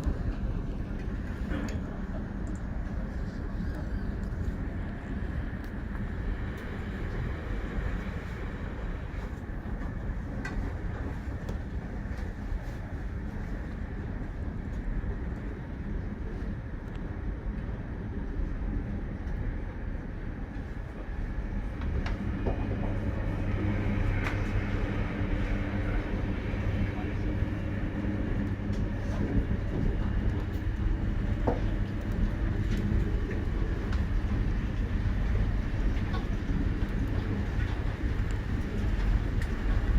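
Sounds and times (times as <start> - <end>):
low even hum: 0.0 - 39.9
train rumble inside passenger car: 0.0 - 39.9.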